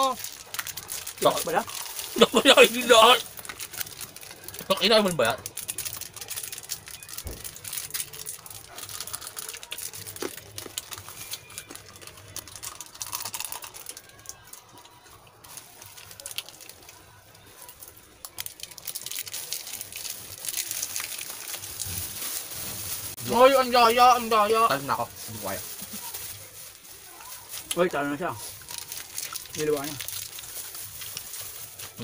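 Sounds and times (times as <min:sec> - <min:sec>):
people chewing: 0:00.0 - 0:23.4, 0:24.2 - 0:32.0
snack wrappers crinkling: 0:00.0 - 0:32.0.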